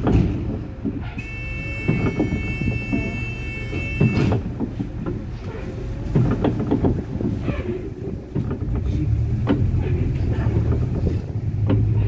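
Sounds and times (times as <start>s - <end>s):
bus engine and road rumble: 0.0s - 12.0s
knocks and rattles: 0.0s - 12.0s.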